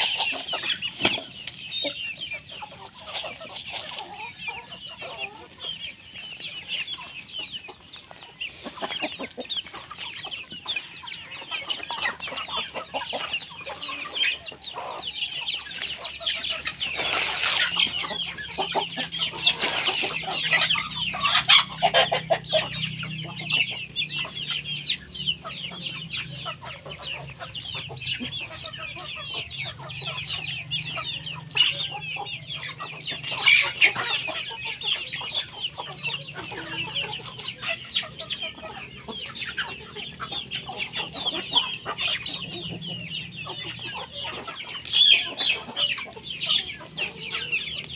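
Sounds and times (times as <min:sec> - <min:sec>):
chickens clucking and calling: 0:00.0 - 0:47.9.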